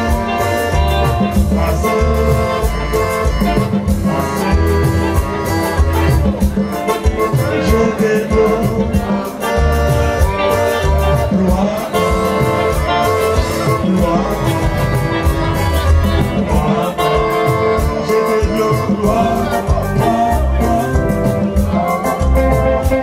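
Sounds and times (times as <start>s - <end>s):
person singing: 0.0s - 5.0s, 6.8s - 23.0s
bass: 0.0s - 23.0s
drum beat: 0.0s - 23.0s
electric guitar: 0.0s - 23.0s.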